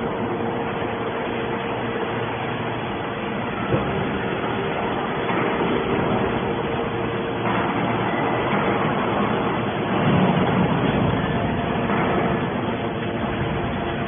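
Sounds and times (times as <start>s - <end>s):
can baler machine humming: 0.0s - 14.0s.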